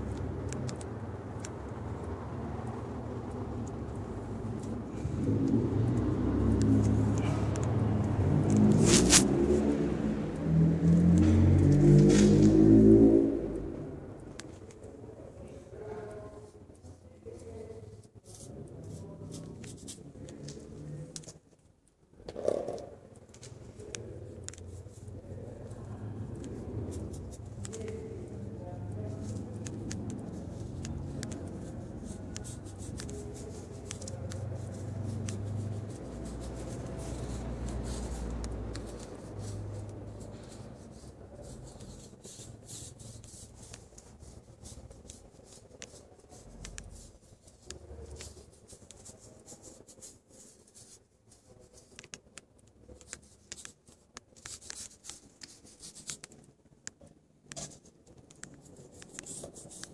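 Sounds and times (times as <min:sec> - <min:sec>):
paintbrush scratching on surface: 0:02.7 - 0:13.1, 0:15.4 - 0:21.4, 0:23.6 - 0:56.5, 0:57.5 - 0:59.9.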